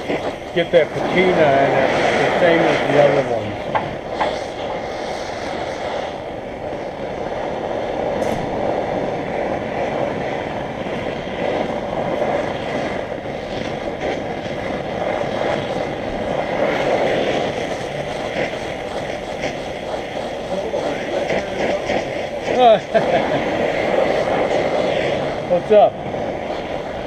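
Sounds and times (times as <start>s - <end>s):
gas torch flame roaring: 0.0s - 27.0s.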